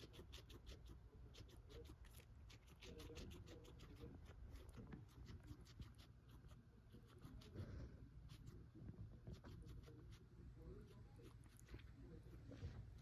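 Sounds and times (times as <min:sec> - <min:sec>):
guinea pig crunching celery: 0:00.0 - 0:13.0.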